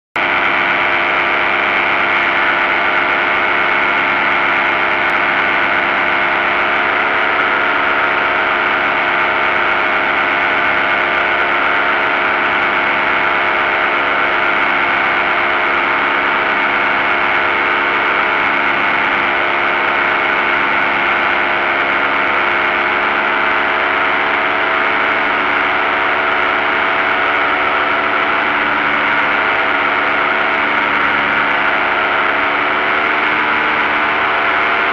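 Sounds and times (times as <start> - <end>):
paramotor engine running: 0.2 - 34.9.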